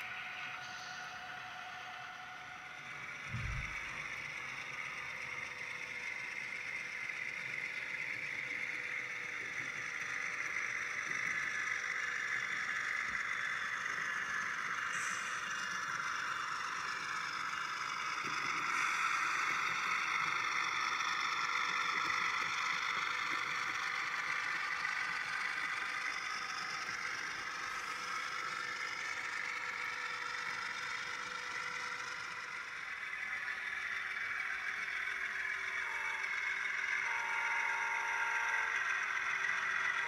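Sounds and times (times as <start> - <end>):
wheels rattling on rails: 0.0 - 37.1
model train motor whir: 0.0 - 40.0.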